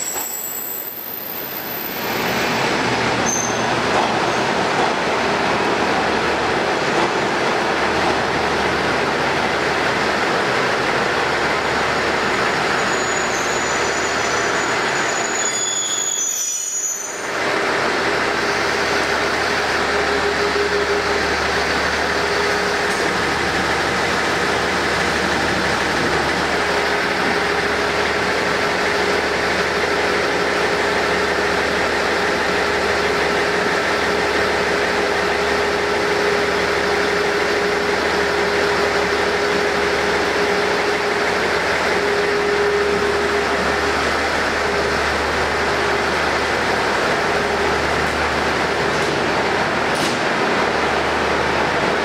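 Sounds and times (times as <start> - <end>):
diesel railcar engine idling: 0.0 - 52.0.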